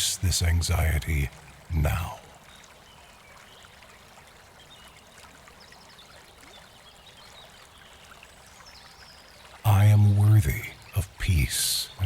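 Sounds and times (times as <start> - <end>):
brook flowing water: 0.0 - 12.0.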